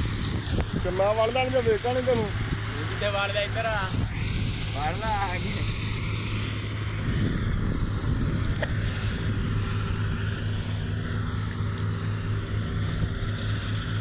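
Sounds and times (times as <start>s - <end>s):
harvester engine droning: 0.0s - 14.0s.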